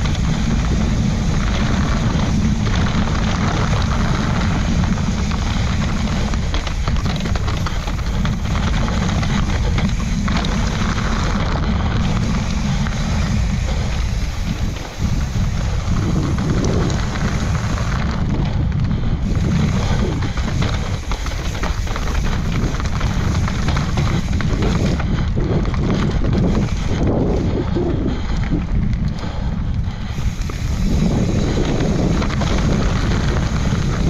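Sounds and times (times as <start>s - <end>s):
mountain bike rattling on dirt trail: 0.0s - 34.0s
wind buffeting microphone: 0.0s - 34.0s.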